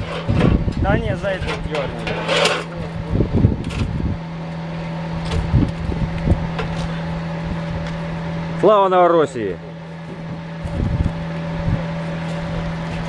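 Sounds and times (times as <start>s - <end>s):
car engine idling: 0.7s - 13.0s.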